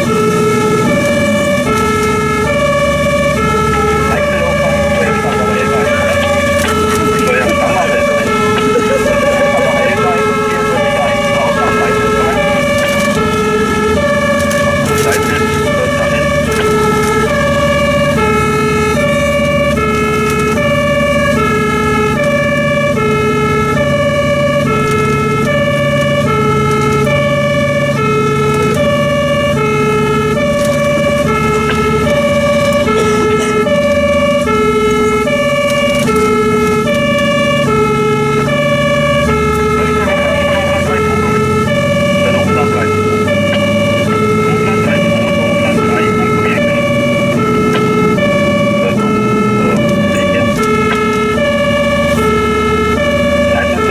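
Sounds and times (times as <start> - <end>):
truck engine rumbling: 0.0 - 53.9
two-tone fire engine siren: 0.0 - 53.9.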